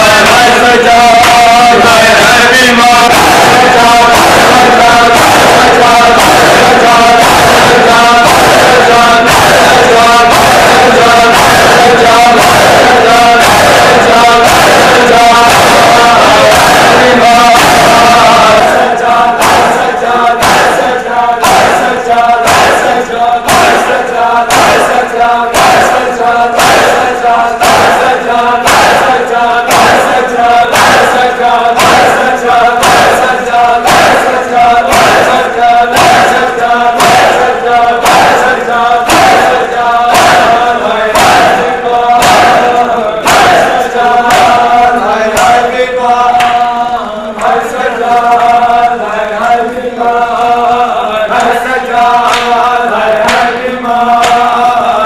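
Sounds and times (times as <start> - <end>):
men chanting in unison: 0.0 - 55.0
hands slapping chests: 3.1 - 45.8, 46.4 - 46.6, 52.2 - 54.6.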